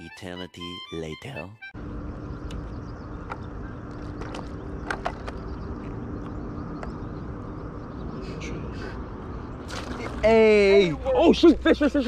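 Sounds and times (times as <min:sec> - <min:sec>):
low outdoor rumble: 0:01.8 - 0:12.0.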